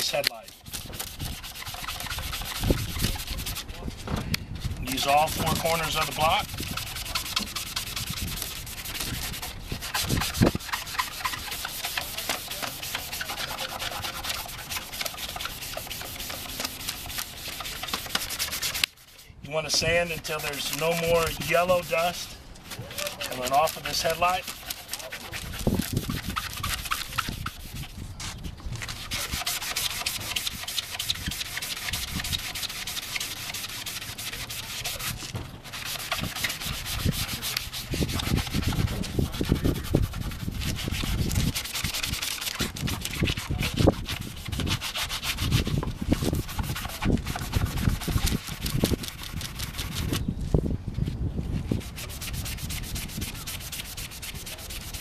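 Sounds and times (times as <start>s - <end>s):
sanding block on plastic: 0.0s - 50.2s, 51.5s - 55.0s.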